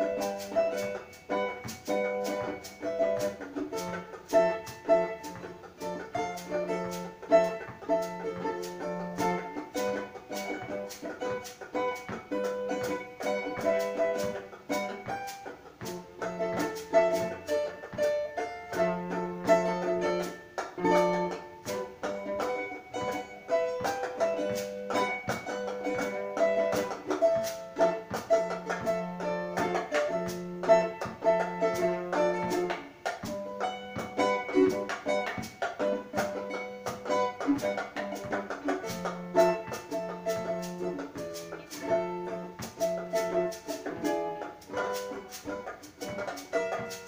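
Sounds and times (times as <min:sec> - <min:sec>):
plucked string notes: 0:00.0 - 0:47.0.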